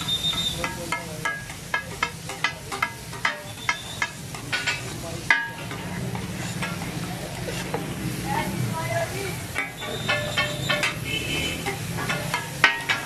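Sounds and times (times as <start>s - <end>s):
metal spatula clanking on iron griddle: 0.0s - 8.5s, 9.4s - 13.0s.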